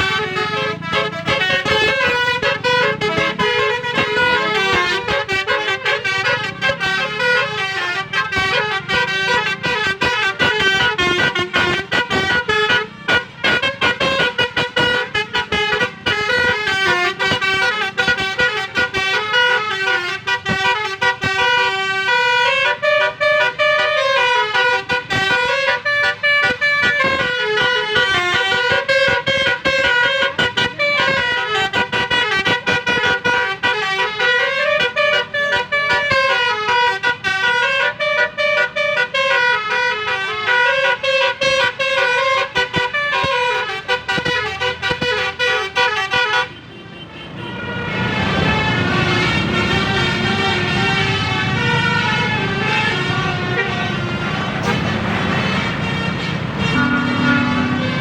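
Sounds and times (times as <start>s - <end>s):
musical horn playing melody: 0.0s - 58.0s.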